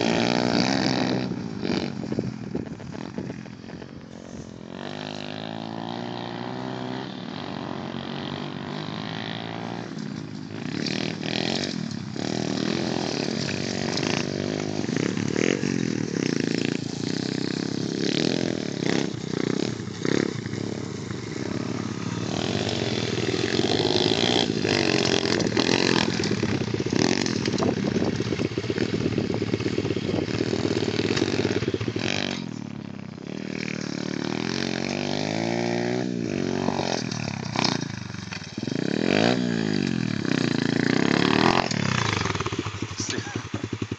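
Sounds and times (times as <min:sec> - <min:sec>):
motorbike engine revving: 0:00.0 - 0:43.9.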